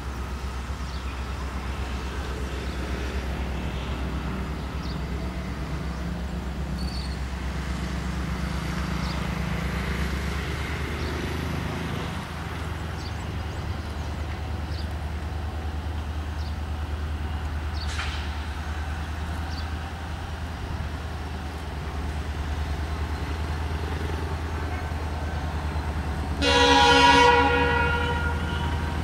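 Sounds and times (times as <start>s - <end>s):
diesel locomotive engine rumbling: 0.0s - 29.0s.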